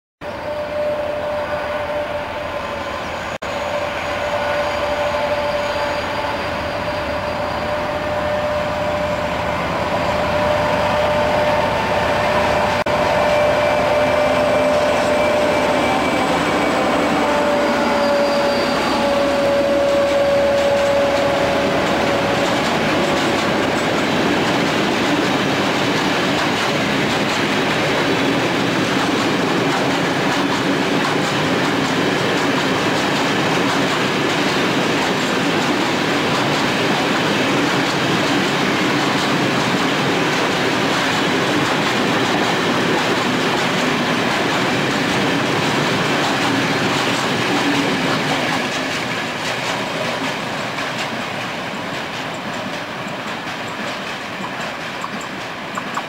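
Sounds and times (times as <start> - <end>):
diesel locomotive engine: 0.2 - 56.0.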